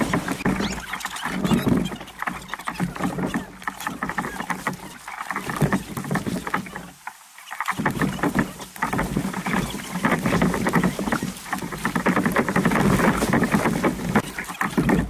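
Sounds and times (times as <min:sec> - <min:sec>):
paddle splashes: 0:00.0 - 0:15.0
water rushing past hull: 0:00.0 - 0:15.0.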